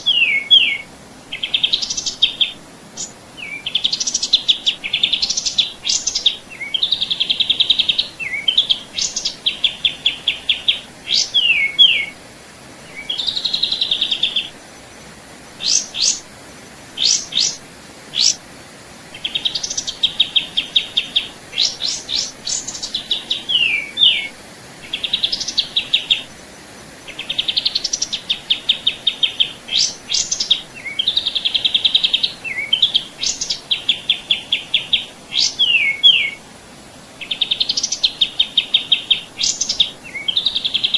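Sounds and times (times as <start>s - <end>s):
songbird trilling and whistling: 0.0s - 12.2s, 12.8s - 14.6s, 15.6s - 18.4s, 19.1s - 26.4s, 27.1s - 36.5s, 37.2s - 40.9s.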